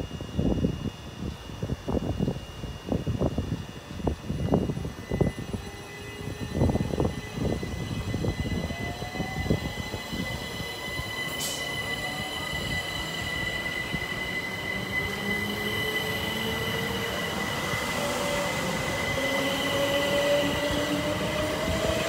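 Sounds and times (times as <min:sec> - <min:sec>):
electric train motors whining: 0:01.6 - 0:22.0.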